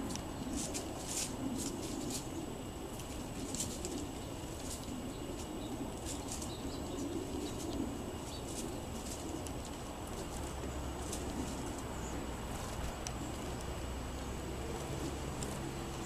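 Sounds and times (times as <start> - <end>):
low background rumble: 0.0 - 16.0
sparrows chipping: 0.0 - 16.0.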